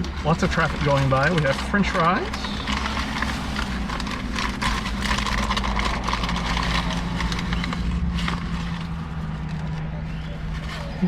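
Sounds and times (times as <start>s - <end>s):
car hum and passing traffic: 0.0s - 11.0s
paper bag crinkling: 0.0s - 11.0s.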